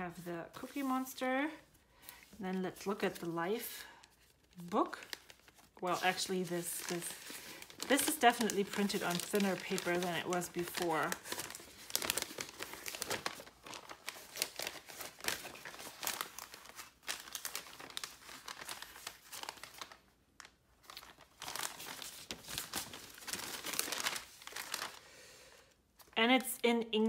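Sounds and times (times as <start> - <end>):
paper crinkling and rustling: 0.1 - 25.1, 26.0 - 26.5.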